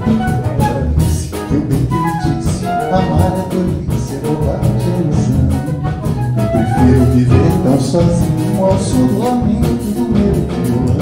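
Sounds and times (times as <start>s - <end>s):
acoustic guitar: 0.0s - 11.0s
double bass: 0.0s - 11.0s
drum kit: 0.0s - 11.0s.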